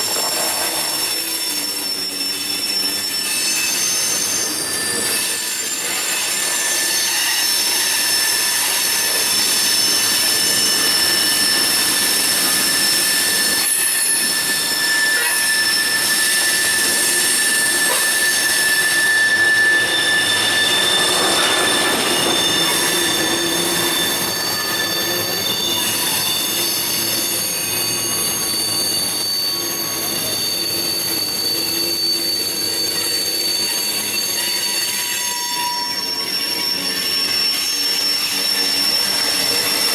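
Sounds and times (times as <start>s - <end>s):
rolling train cars: 0.0s - 39.9s
train wheels squealing on rails: 0.0s - 39.9s.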